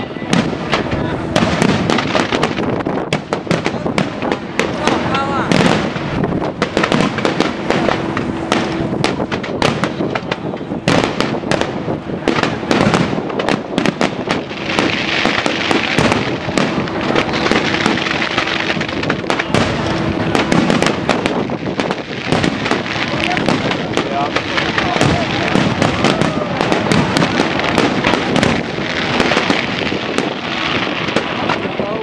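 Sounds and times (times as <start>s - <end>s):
firecrackers crackling bangs: 0.0s - 32.0s
hissing crackle: 0.0s - 32.0s.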